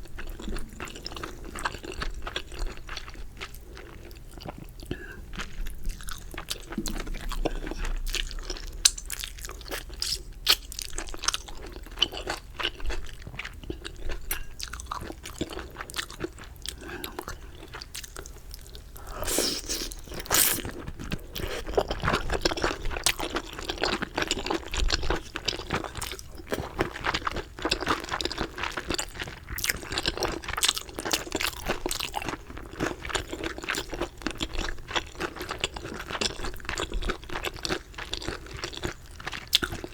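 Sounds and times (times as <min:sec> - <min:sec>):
crunching and chewing: 0:00.1 - 0:39.9.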